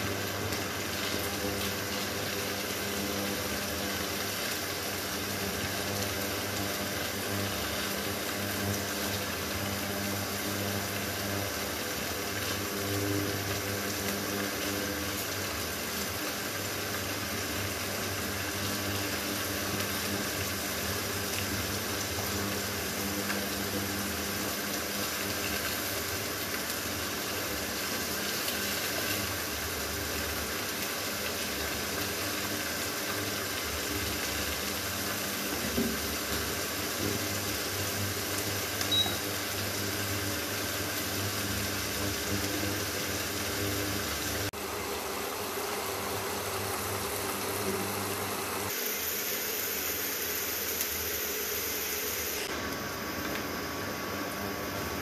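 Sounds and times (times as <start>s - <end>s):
cheese frying in hot oil: 0.0s - 55.0s.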